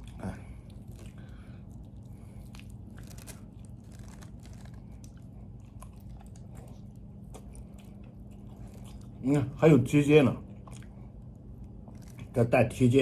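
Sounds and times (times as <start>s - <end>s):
person chewing and gnawing: 0.0s - 9.4s, 10.4s - 12.4s
steady low hum: 0.0s - 13.0s.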